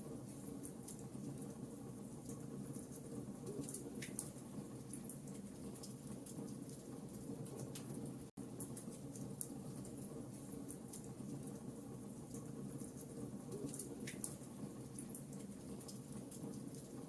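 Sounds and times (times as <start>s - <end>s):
wood fire crackling and popping: 2.2s - 17.0s.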